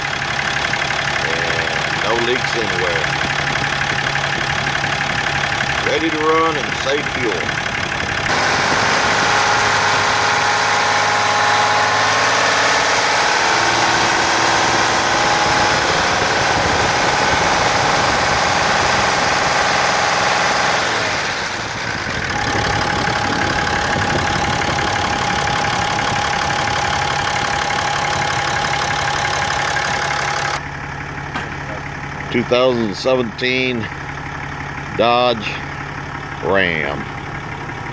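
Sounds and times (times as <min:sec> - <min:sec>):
diesel engine idling: 0:00.0 - 0:37.9
engine whine: 0:00.0 - 0:37.9.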